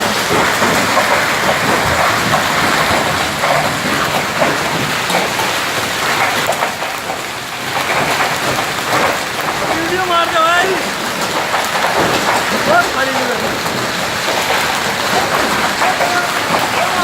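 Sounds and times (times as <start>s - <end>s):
heavy rain and hail clattering: 0.0s - 17.0s.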